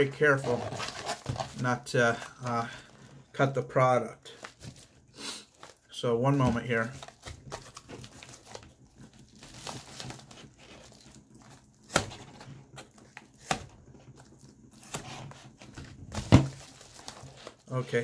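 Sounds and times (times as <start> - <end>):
packaging crinkling and tearing: 0.0 - 3.0, 4.3 - 18.0.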